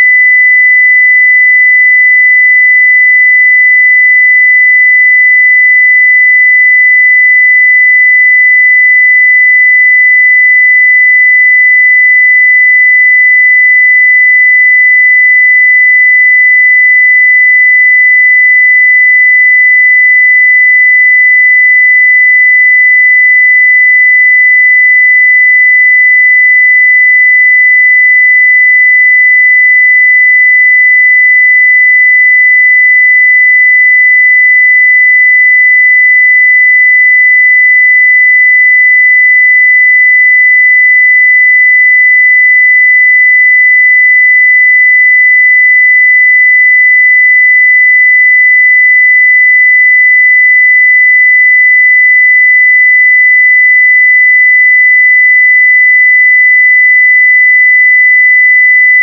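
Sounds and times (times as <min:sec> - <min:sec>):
sine wave test tone: 0:00.0 - 0:59.0.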